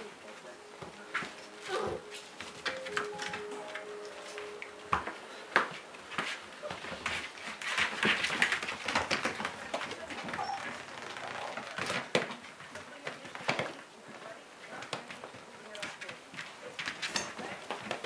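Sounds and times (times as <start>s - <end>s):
puppies scrabbling on carpet: 0.4s - 18.0s.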